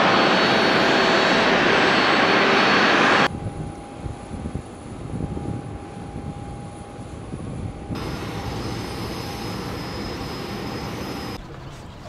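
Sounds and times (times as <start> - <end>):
constant high whine: 0.0 - 11.4
apron engine noise: 0.0 - 12.0.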